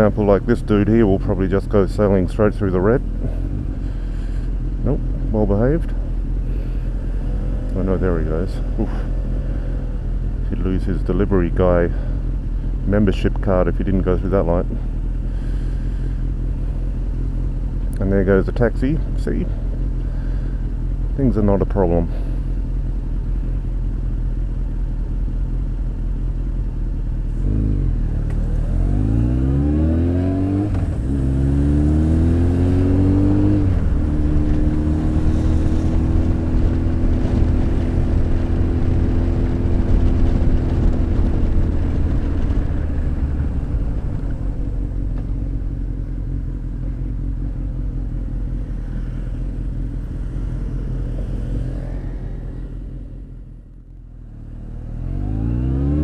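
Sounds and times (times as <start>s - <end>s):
motorcycle engine revving: 0.0s - 23.6s, 24.4s - 56.0s.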